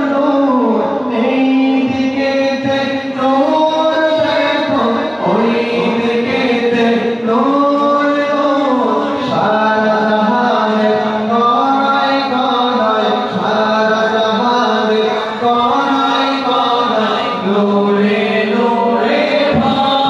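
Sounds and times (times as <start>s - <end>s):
voices singing over loudspeaker: 0.0s - 20.0s.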